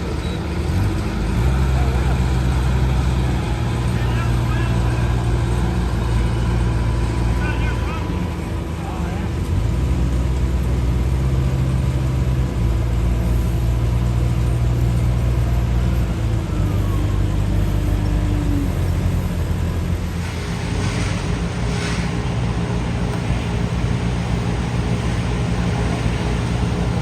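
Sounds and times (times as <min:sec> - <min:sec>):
heavy machinery engine drone: 0:00.0 - 0:27.0.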